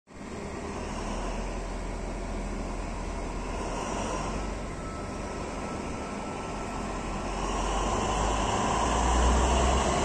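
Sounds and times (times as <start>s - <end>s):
diesel locomotive engine drone: 0.1s - 10.0s.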